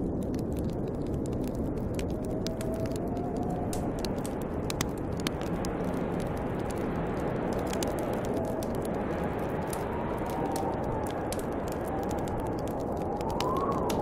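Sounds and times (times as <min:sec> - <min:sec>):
wood fire crackling: 0:00.0 - 0:14.0
wind blowing with whistle: 0:01.3 - 0:14.0.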